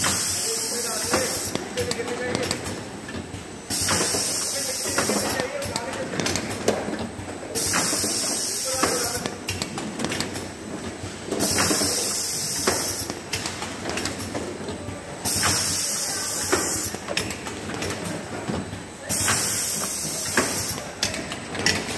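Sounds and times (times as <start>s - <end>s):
packaging machinery clattering: 0.0s - 21.9s.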